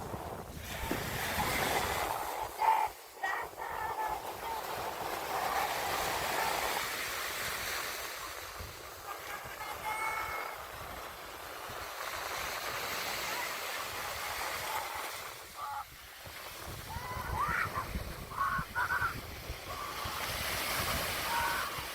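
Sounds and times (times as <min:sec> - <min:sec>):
waves washing onto beach: 0:00.0 - 0:21.9.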